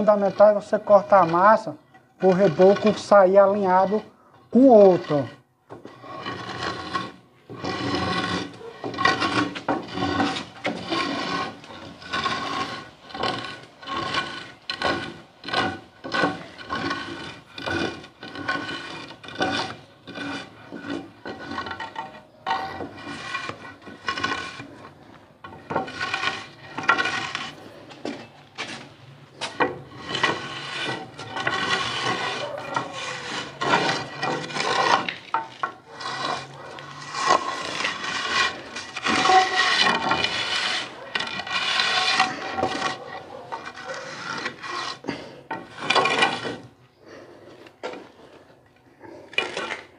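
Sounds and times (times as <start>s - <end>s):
straightedge scraping cement render: 0.0s - 49.9s.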